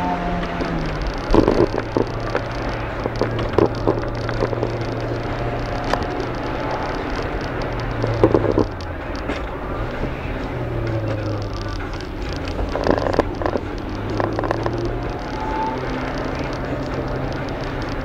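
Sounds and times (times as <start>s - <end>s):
car engine pulling: 0.0s - 18.0s
road noise: 0.0s - 18.0s.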